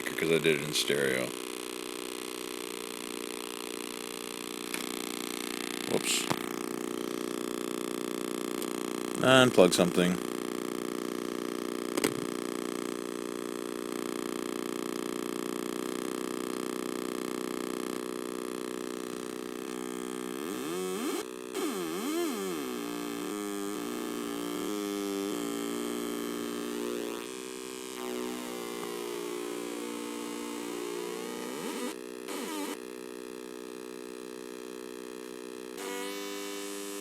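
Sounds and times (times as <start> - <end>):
buzzy square-wave synth tones: 0.0 - 37.0.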